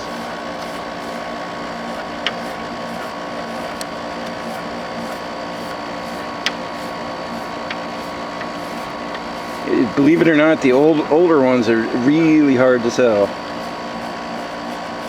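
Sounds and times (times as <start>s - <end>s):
dehumidifier humming: 0.0s - 15.0s.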